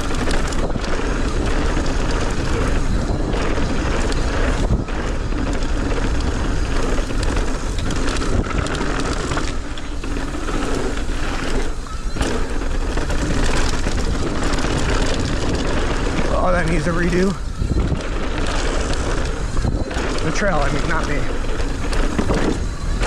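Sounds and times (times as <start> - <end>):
bike rattling over bumps: 0.0 - 23.0
bike tyres rolling on dirt: 0.0 - 23.0
wind rushing over microphone: 0.0 - 23.0.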